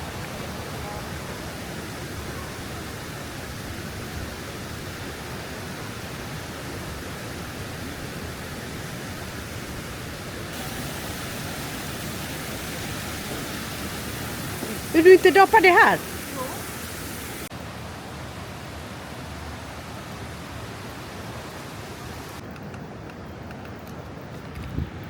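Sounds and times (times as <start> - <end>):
waterfall roaring: 0.0 - 22.4.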